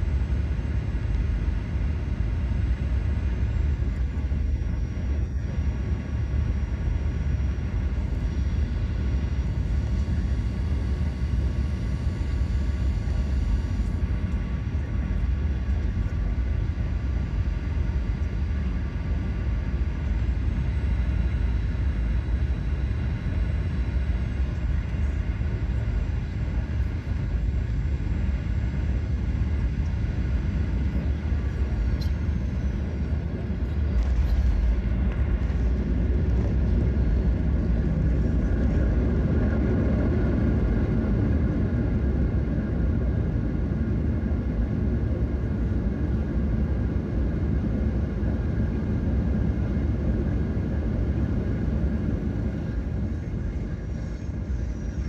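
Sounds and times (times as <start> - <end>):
airliner engine and airflow rumble: 0.0 - 55.0
high engine whines: 0.0 - 55.0.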